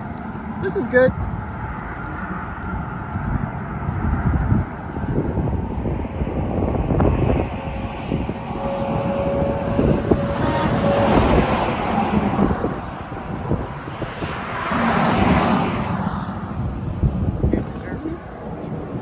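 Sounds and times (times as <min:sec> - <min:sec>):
highway traffic passing: 0:00.0 - 0:19.0
wind buffeting microphone: 0:00.0 - 0:19.0.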